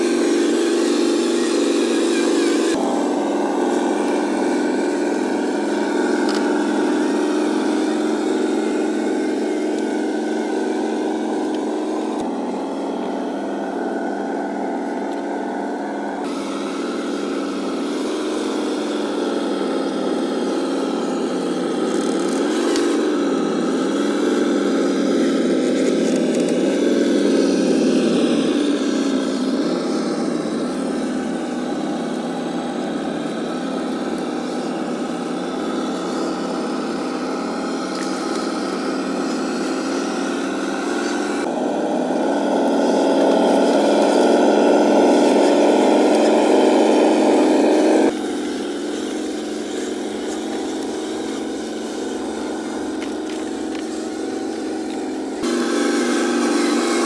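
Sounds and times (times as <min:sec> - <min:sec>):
toy truck motor hum: 0:00.0 - 0:57.0.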